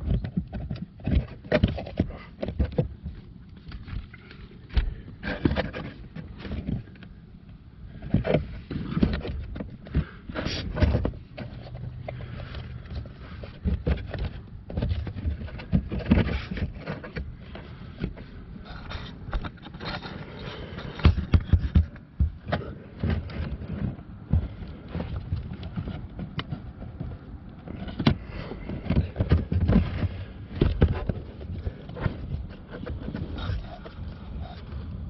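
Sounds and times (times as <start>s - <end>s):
plastic cover scraping and knocking: 0.0s - 7.2s, 8.0s - 35.0s.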